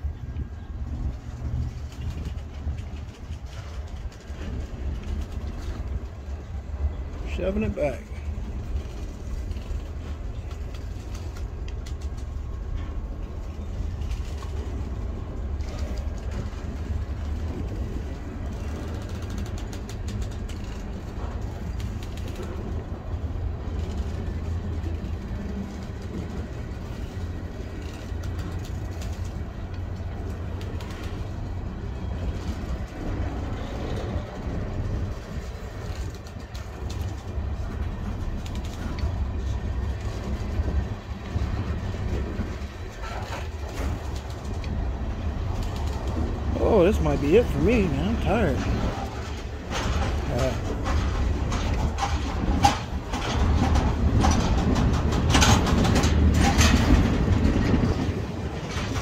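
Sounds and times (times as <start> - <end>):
steel wheels rumbling on rails: 0.0 - 59.0
train cars clicking and clanking: 0.0 - 59.0.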